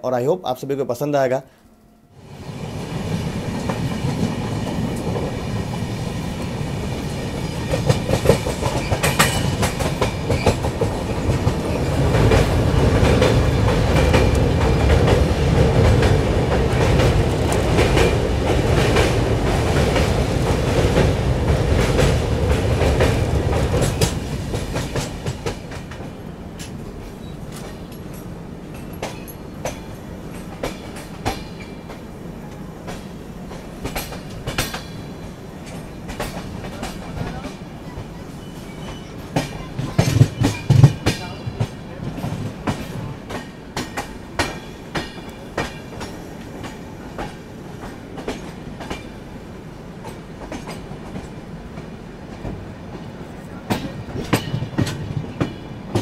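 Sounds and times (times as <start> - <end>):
train rumbling: 1.7 - 56.0
wheels clacking over rail joints: 2.8 - 49.3, 50.0 - 56.0.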